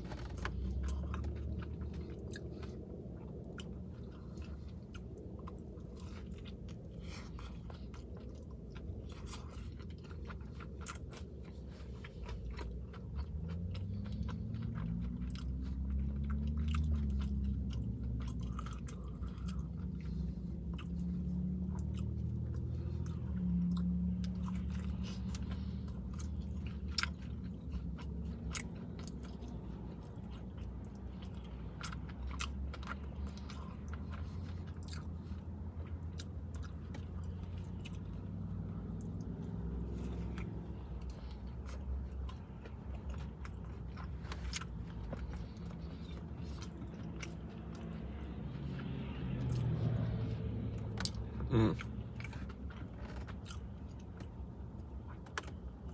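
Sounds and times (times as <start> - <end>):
chewing crispy sandwich: 0.0 - 55.9
steady low hum: 0.0 - 55.9.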